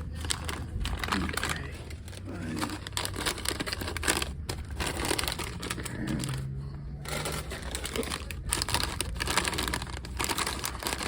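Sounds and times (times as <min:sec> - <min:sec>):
plastic wrappers crinkling: 0:00.0 - 0:11.0.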